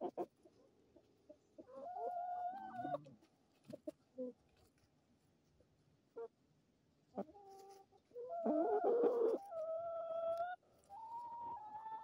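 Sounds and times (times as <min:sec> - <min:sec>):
chickens clucking and calling: 0:00.0 - 0:04.4, 0:06.1 - 0:06.4, 0:07.0 - 0:12.0.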